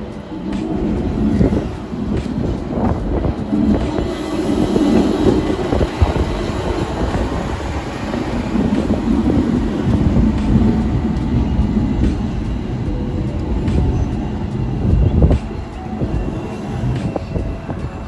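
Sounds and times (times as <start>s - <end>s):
tram rumbling and rattling on rails: 0.0s - 18.0s.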